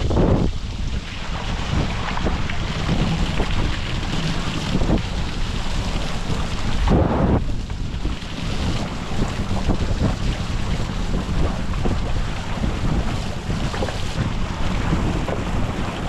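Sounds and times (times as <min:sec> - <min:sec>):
water sloshing in boat: 0:00.0 - 0:16.0
wind buffeting microphone: 0:00.0 - 0:16.0.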